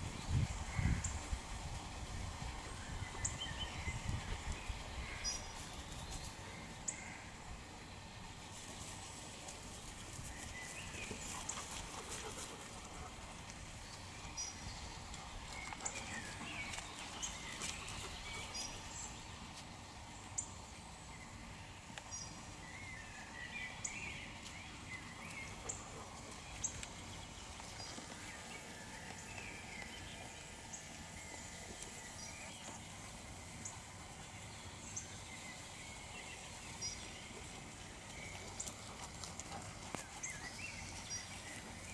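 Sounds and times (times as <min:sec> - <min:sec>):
songbirds warbling: 0:00.0 - 0:07.9, 0:09.4 - 0:41.9.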